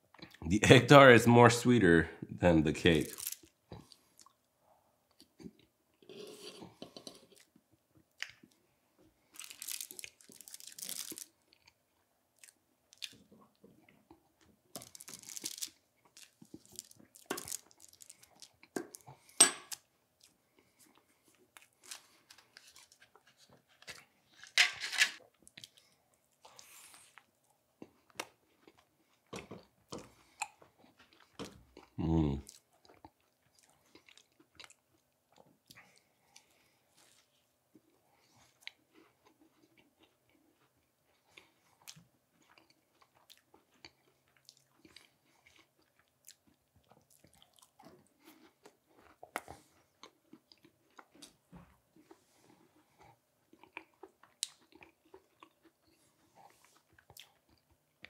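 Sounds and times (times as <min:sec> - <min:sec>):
crunching and chewing: 0:09.2 - 0:24.5, 0:25.2 - 0:58.0.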